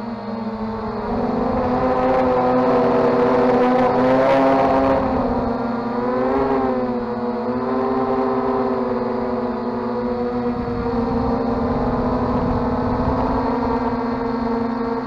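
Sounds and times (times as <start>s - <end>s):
rc helicopter whine: 0.0s - 15.0s.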